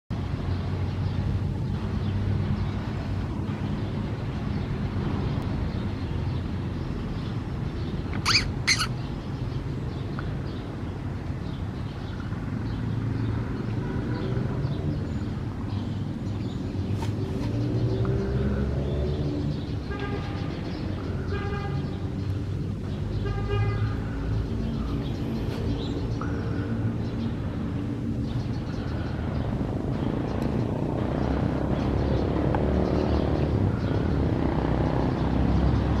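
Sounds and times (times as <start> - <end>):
road traffic rumble: 0.1 - 36.0
vehicle engine hum: 0.1 - 36.0.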